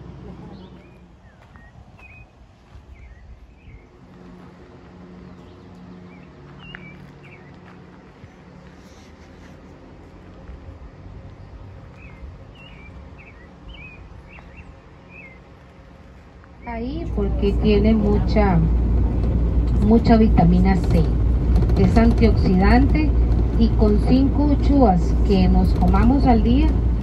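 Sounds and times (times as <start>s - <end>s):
birds chirping: 0.0s - 27.0s
low steady rumble: 0.0s - 27.0s.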